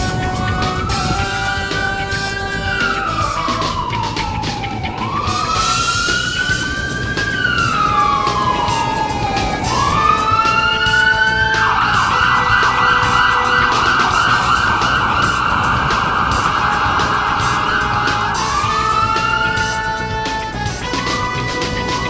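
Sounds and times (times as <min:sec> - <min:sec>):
emergency siren wailing and yelping: 0:00.0 - 0:22.0.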